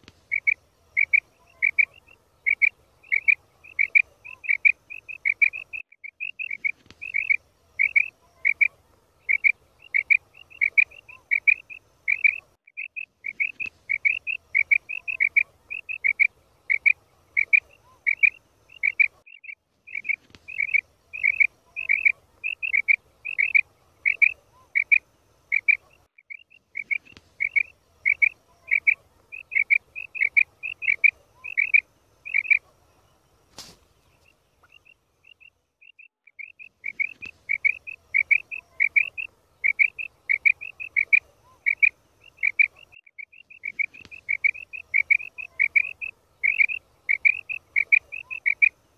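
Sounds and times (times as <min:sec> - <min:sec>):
quail call notes: 0:00.2 - 0:48.8.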